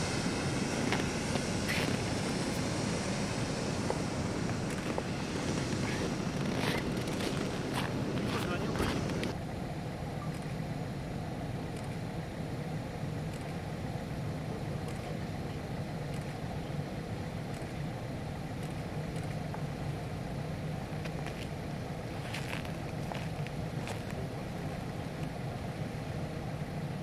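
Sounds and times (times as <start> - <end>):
low drone of jet engines: 0.0 - 27.0.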